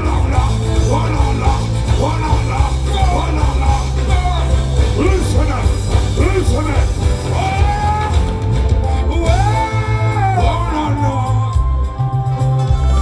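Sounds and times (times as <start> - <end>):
live band with heavy bass beat: 0.0 - 13.0.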